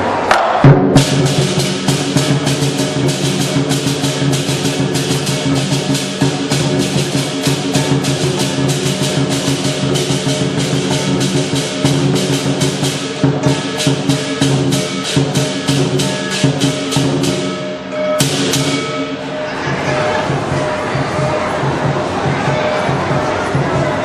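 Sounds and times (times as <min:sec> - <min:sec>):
cymbals clashing: 0:00.3 - 0:24.0
drum beating: 0:00.3 - 0:24.0
gong: 0:00.6 - 0:24.0.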